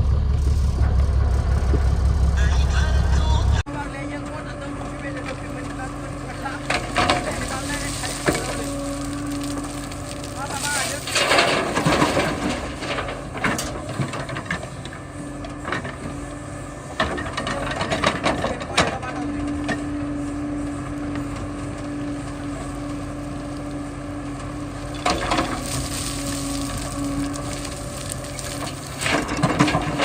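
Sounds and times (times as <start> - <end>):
backhoe engine hum: 0.0 - 30.0.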